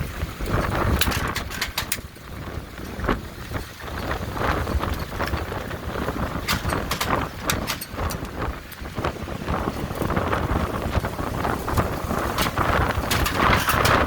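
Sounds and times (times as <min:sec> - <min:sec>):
rain: 0:00.0 - 0:14.0
wind buffeting microphone: 0:00.0 - 0:14.0
wind gusting: 0:00.0 - 0:14.0.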